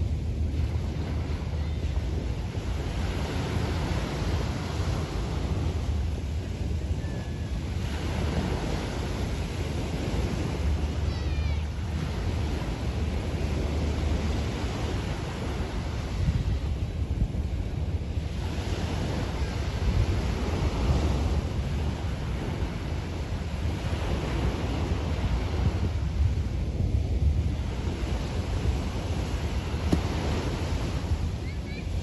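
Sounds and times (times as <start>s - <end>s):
waves breaking on beach: 0.0s - 32.0s
wind rumble on microphone: 0.0s - 32.0s.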